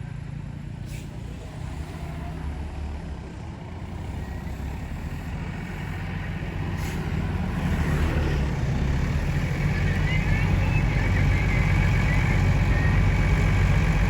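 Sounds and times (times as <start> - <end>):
diesel bus engine running: 0.0 - 14.0.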